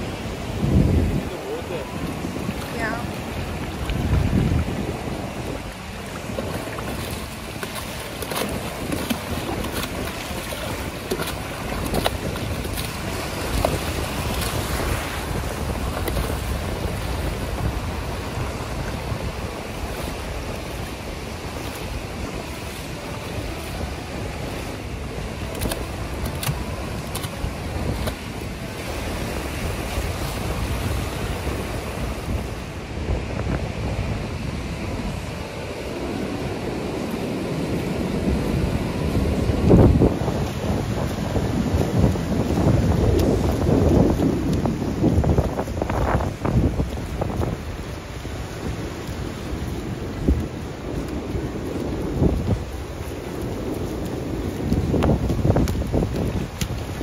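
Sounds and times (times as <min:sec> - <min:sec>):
waves washing on beach: 0:00.0 - 0:57.0
wind buffeting microphone: 0:00.0 - 0:57.0.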